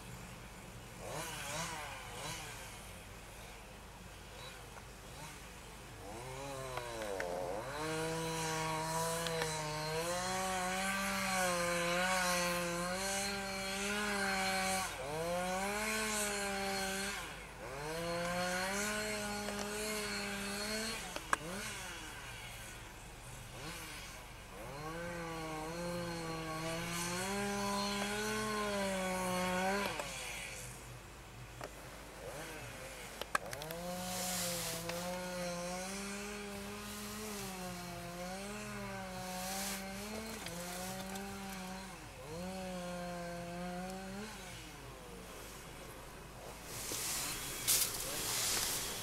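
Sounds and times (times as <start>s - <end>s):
chainsaw cutting ice: 1.0s - 49.0s.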